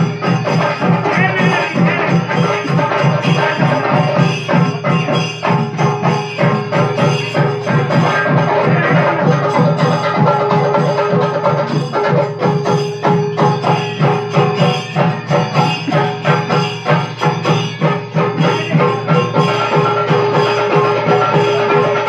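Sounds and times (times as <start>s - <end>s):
fast drum strikes: 0.0s - 22.0s
held drone tone: 0.0s - 22.0s.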